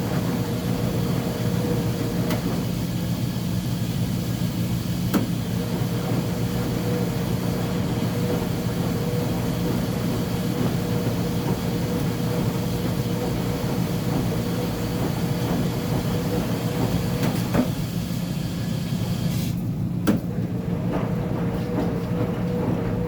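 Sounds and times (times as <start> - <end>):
washing machine rumbling: 0.0 - 23.0.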